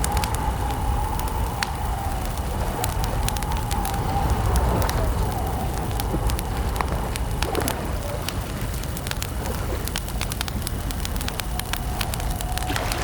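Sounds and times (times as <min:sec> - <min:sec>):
campfire crackling: 0:00.0 - 0:13.0
crickets chirring: 0:00.0 - 0:13.0.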